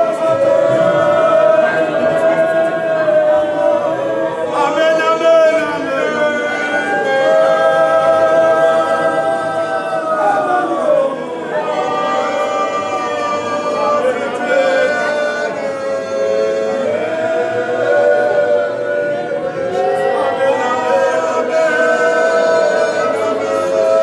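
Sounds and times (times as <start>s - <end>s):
group singing in harmony: 0.0s - 24.0s.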